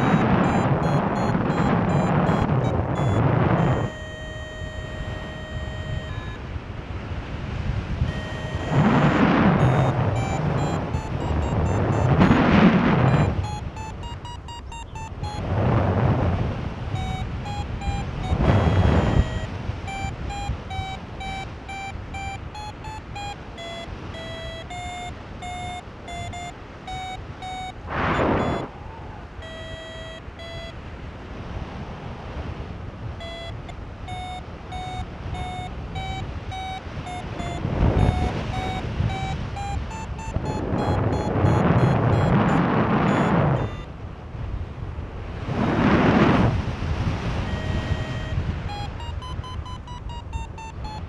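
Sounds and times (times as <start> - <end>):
variometer beeping: 0.0 - 6.6, 7.9 - 28.7, 29.4 - 30.9, 33.2 - 44.0, 47.0 - 51.0
wind gusts on microphone: 0.0 - 51.0.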